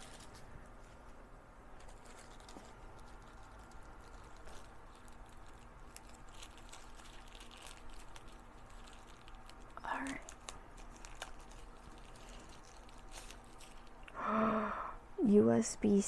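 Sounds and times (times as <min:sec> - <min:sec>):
plastic packaging rustling: 0:00.0 - 0:14.1
low room hum: 0:00.0 - 0:16.0.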